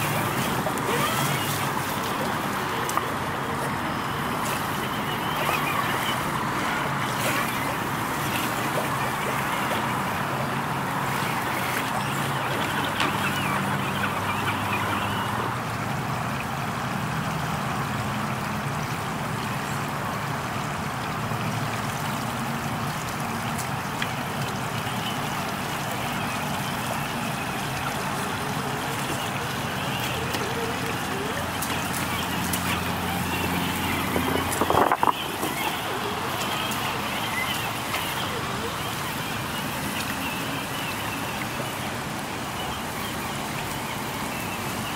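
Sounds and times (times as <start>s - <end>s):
water splash: 0.0s - 15.5s, 21.4s - 44.9s
water rushing: 0.0s - 44.9s.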